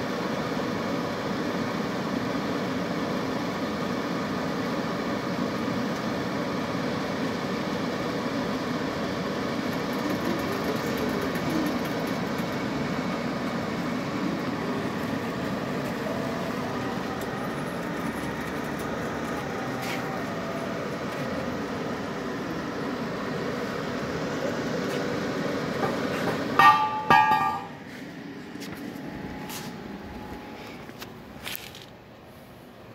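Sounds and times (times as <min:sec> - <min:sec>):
pipe-cutting machine running: 0:00.0 - 0:32.0.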